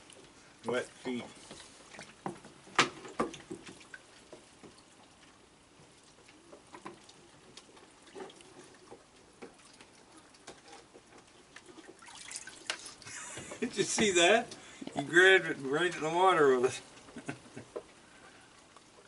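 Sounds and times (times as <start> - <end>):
small water splashes and drips: 0.0 - 19.0.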